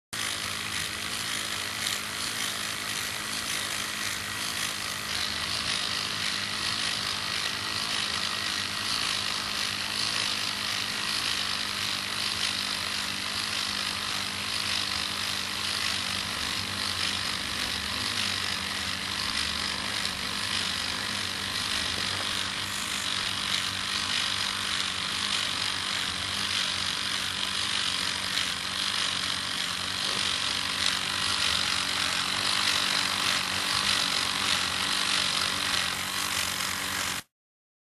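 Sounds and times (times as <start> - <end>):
model steam engine hissing steam: 0.2 - 37.3.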